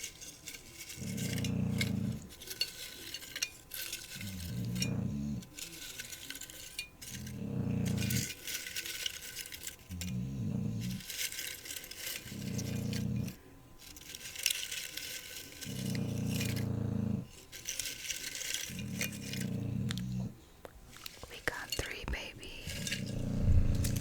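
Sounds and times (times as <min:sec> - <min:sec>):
light clinks and rattles: 0:00.0 - 0:24.0
puppy snoring: 0:00.7 - 0:03.0, 0:03.9 - 0:06.4, 0:07.0 - 0:13.5, 0:15.0 - 0:24.0.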